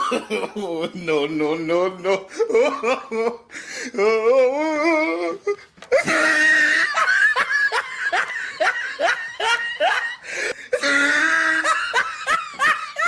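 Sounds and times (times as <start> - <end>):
person laughing hard: 2.2 - 13.0.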